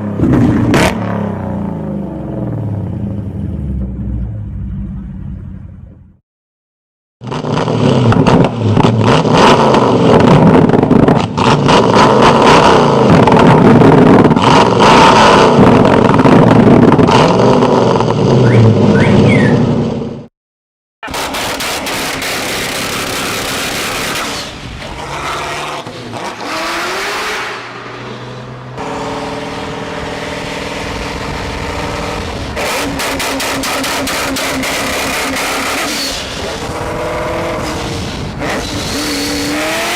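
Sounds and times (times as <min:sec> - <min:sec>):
car engines revving hard: 0:00.0 - 0:03.2, 0:07.2 - 0:20.2, 0:21.0 - 0:39.9.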